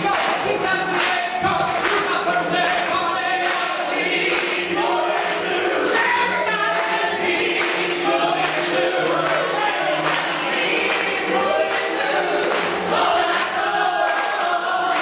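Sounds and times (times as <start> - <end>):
group singing with accompaniment: 0.0 - 15.0.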